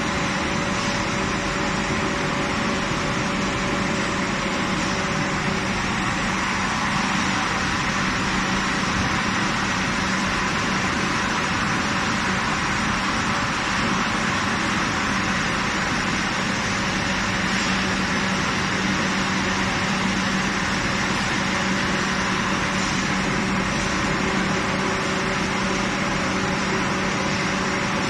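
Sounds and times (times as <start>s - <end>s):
laser cutting machine hissing: 0.0s - 28.0s.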